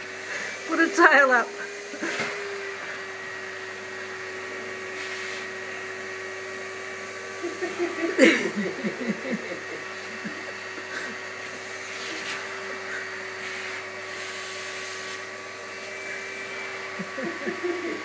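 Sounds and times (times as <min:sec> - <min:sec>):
vacuum cleaner whining: 0:00.0 - 0:18.0.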